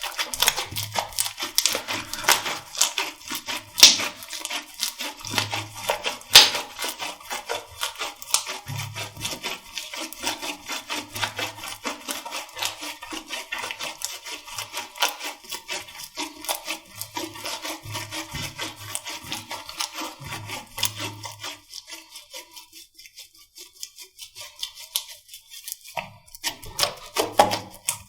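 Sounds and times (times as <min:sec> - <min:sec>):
slime squishing: 0:00.0 - 0:28.0.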